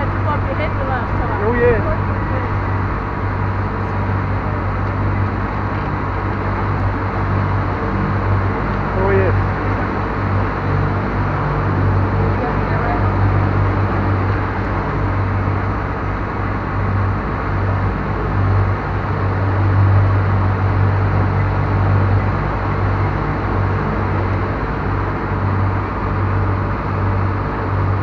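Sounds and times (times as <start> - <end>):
ferry engine humming: 0.0 - 28.0
rush of wind and water: 0.0 - 28.0.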